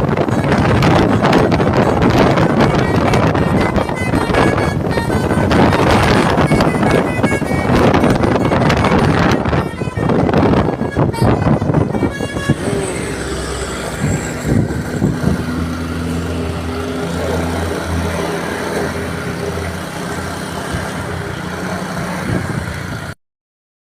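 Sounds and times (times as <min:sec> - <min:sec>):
multi-tone musical air horn: 0:00.0 - 0:20.1
bus engine running: 0:00.0 - 0:23.2
traffic noise: 0:00.0 - 0:23.2.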